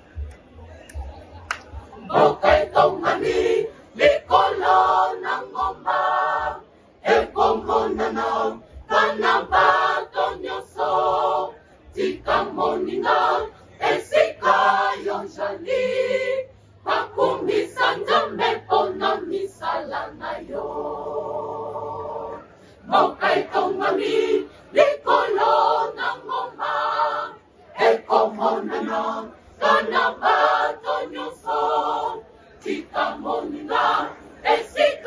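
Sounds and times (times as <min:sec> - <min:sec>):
mixed choir singing a cappella: 0:01.0 - 0:35.0.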